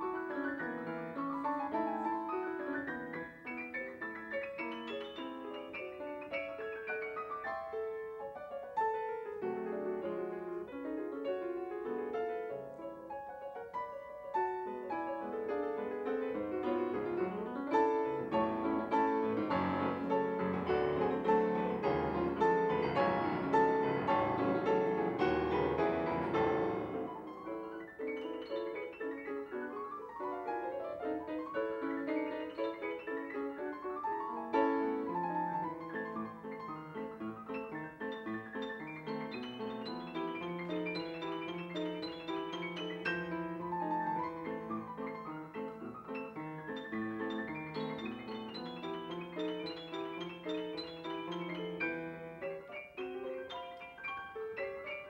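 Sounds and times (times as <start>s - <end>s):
solo classical piano: 0.0s - 55.0s.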